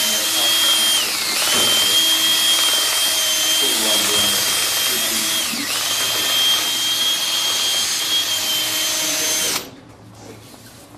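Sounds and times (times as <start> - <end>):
power drill high whine: 0.0 - 9.7.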